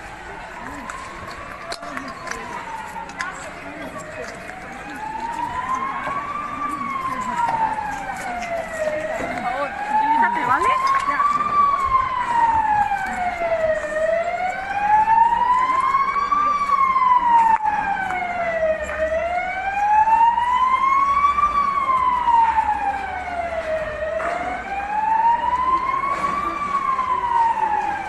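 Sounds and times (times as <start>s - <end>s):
emergency siren wailing: 0.0s - 28.0s.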